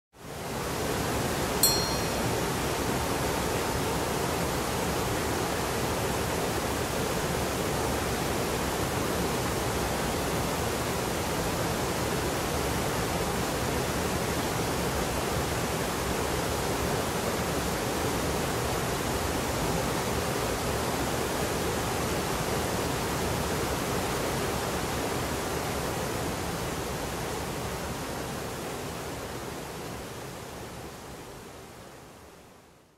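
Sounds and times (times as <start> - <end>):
water rushing over cascades: 0.2 - 32.3.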